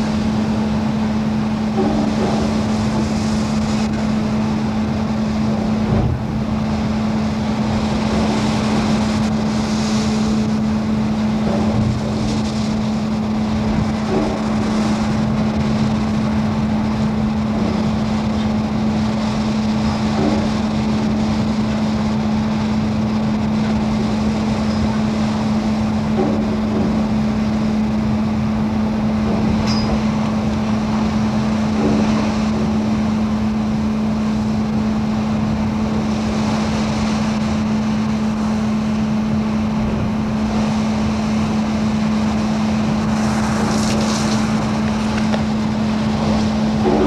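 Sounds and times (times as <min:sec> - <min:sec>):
constant low hum: 0:00.0 - 0:47.0
rush of noise: 0:00.0 - 0:47.0
wind and sea noise: 0:00.0 - 0:47.0.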